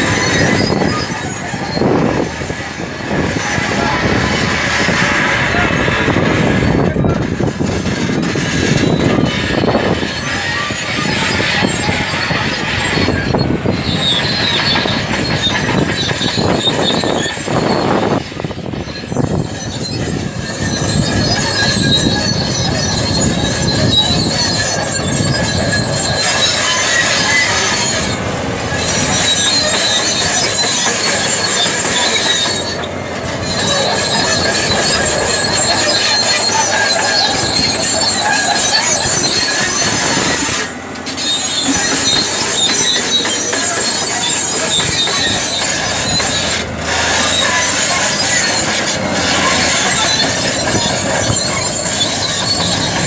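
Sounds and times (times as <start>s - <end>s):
diesel engine under load: 0.0s - 53.0s
steel tracks squealing and clanking: 0.0s - 53.0s.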